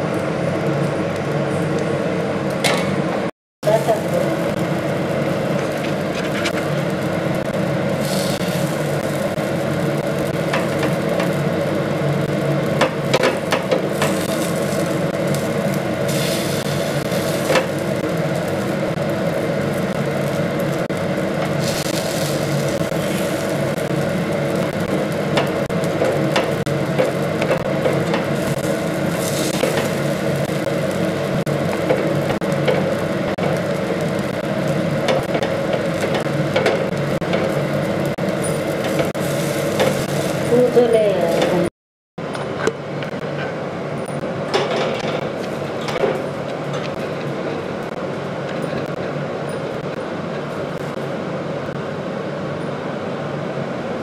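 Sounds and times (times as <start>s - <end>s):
low mechanical hum: 0.0s - 54.0s
sizzling: 3.6s - 41.7s, 44.0s - 52.7s.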